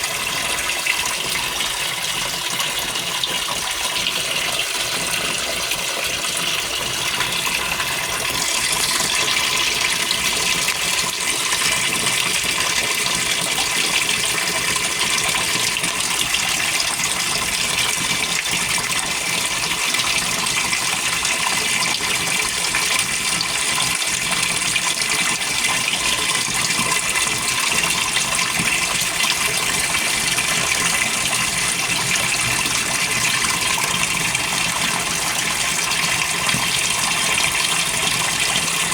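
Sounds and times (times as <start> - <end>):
water rushing into washer tub: 0.0 - 38.9.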